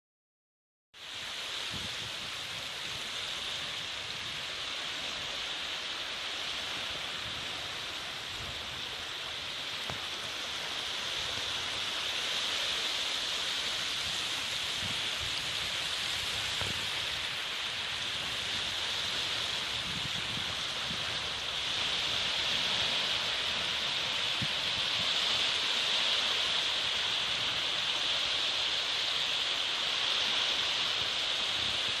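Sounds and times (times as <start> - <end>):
sea water washing: 2.7 - 32.0.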